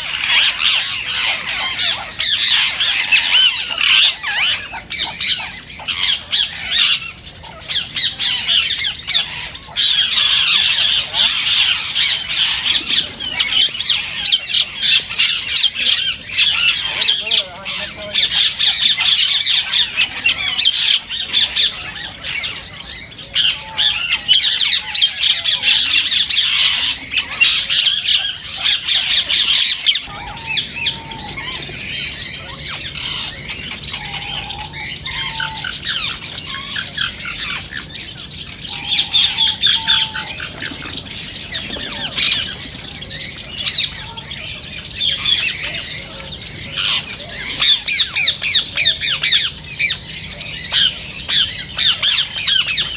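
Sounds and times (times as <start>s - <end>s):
parakeets screeching: 0.0s - 52.9s.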